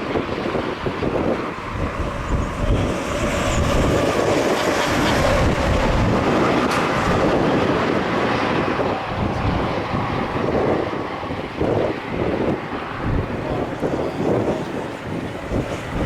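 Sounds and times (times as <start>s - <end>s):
wind blowing over microphone: 0.0s - 16.0s.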